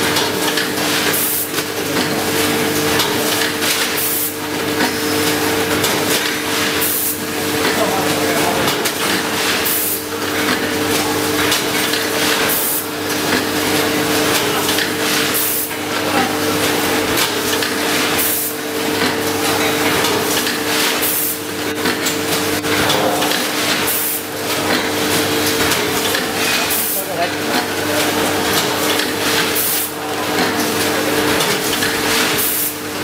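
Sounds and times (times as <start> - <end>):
machine hiss and clack: 0.0 - 15.9, 16.5 - 33.0
packing machine humming: 0.0 - 33.0.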